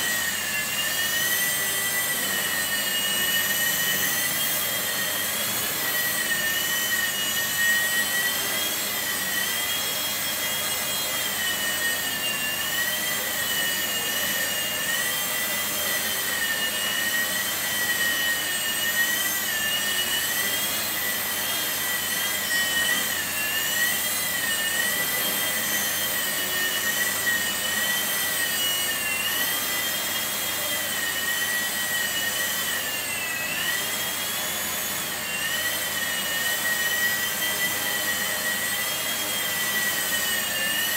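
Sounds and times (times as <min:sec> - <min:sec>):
small helicopter motor whine: 0:00.0 - 0:40.9.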